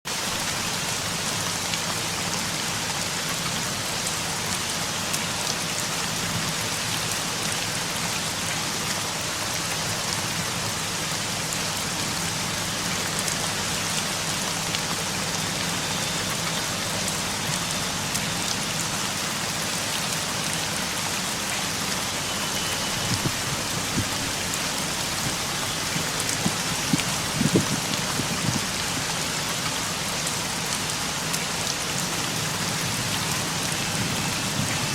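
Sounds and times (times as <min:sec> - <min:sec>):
rain pattering on surfaces: 0:00.1 - 0:34.9.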